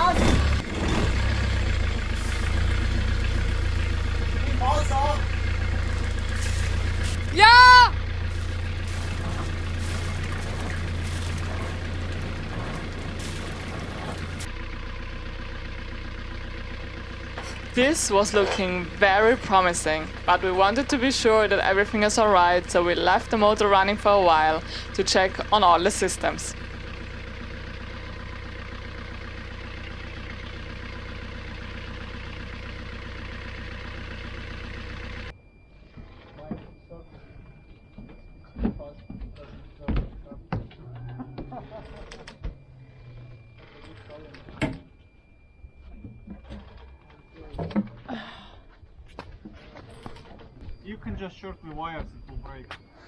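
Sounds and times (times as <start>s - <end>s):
diesel engine humming: 0.0s - 53.0s.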